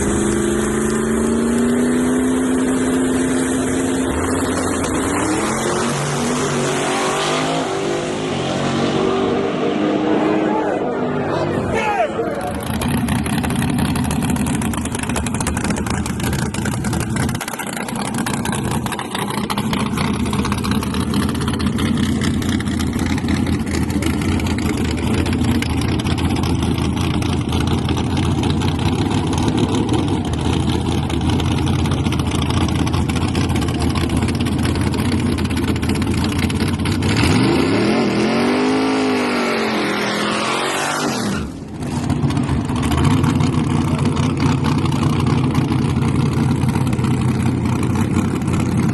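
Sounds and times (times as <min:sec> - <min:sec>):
pickup engine at high revs: 0:00.0 - 0:11.5, 0:12.4 - 0:48.9.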